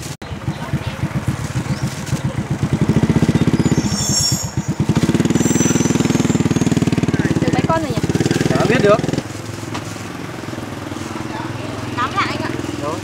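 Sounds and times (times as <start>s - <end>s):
small engine running: 0.3s - 13.0s.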